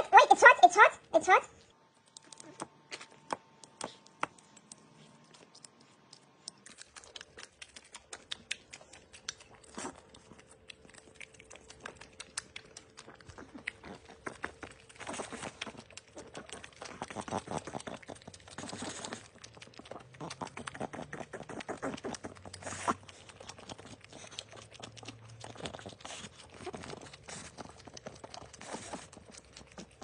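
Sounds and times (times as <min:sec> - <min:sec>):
dog licking and chewing: 0:02.0 - 0:30.0.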